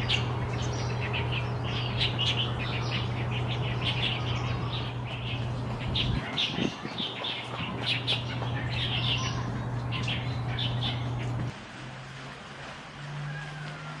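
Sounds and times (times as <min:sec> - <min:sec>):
birds chirping: 0:00.0 - 0:11.5
steady low hum: 0:00.0 - 0:11.5.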